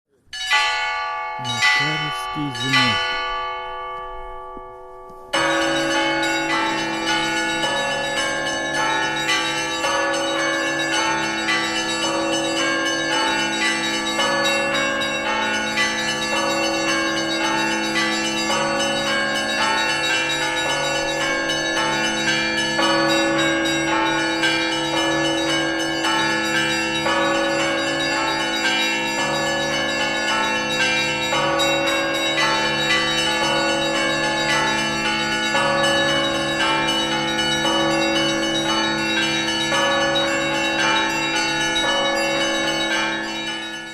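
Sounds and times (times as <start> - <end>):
large bells humming tones: 0.4 - 43.9.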